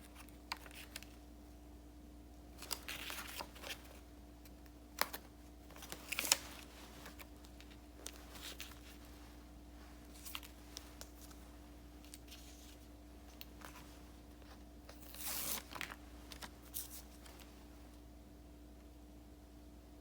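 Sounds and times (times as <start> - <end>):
paper crinkling and tapping: 0.0 - 1.2, 2.6 - 17.6
faint steady hum: 0.0 - 20.0.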